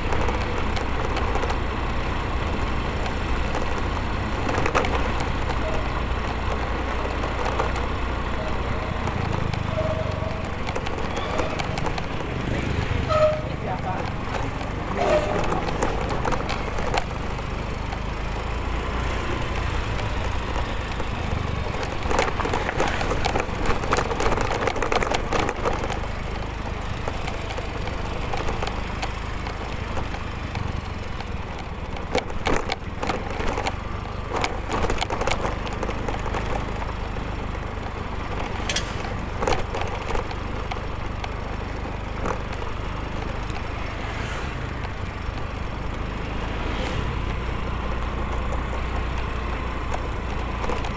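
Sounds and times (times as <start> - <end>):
crackles and clicks: 0.0 - 50.9
motorcycle engine rumble: 0.0 - 50.9.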